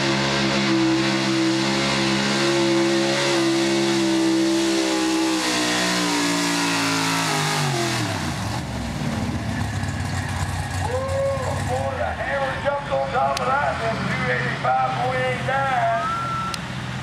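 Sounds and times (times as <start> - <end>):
truck engine running flat out: 0.0 - 17.0.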